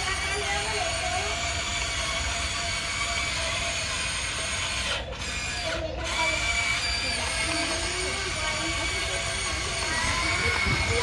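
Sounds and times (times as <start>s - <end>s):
toy excavator motors whirring: 0.0s - 11.0s.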